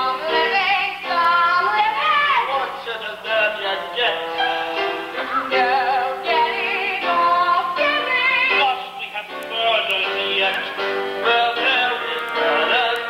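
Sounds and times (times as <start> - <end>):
musical accompaniment: 0.0 - 13.0
person singing with vibrato: 0.0 - 13.0.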